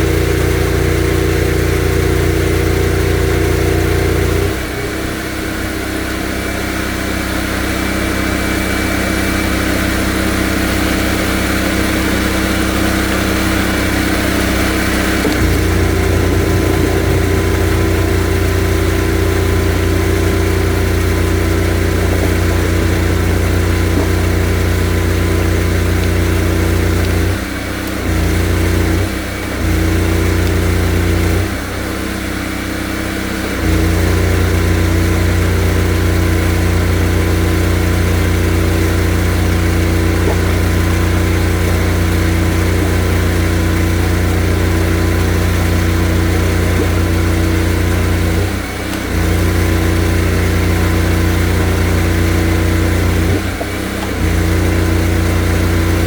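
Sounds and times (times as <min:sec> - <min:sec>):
drain jetter engine humming: 0:00.0 - 0:56.0.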